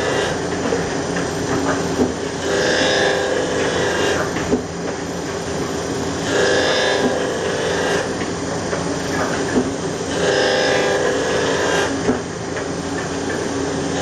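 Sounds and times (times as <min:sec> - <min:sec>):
sharp machine clack: 0:00.0 - 0:04.6, 0:05.3 - 0:12.2
book-binding machine humming: 0:00.0 - 0:14.0.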